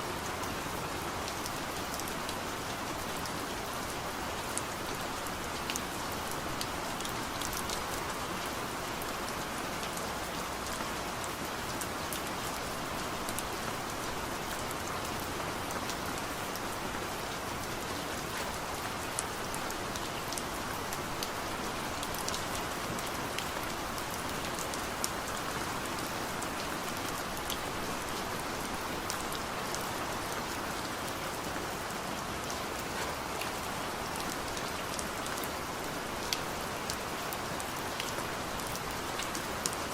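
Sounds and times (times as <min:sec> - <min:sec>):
heavy rain falling: 0:00.1 - 0:39.9.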